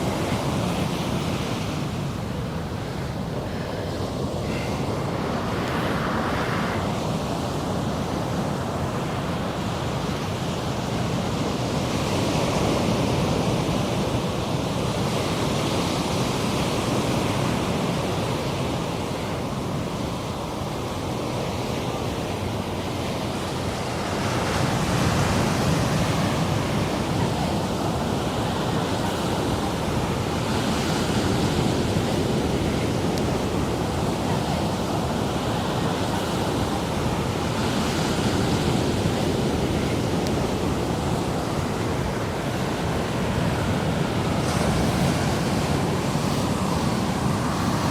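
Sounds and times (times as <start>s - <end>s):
ocean surf washing: 0.0s - 47.9s
wind on microphone: 0.0s - 47.9s.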